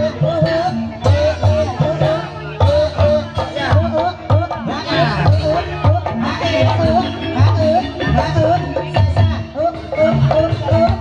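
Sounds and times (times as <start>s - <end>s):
gamelan music: 0.0s - 11.0s.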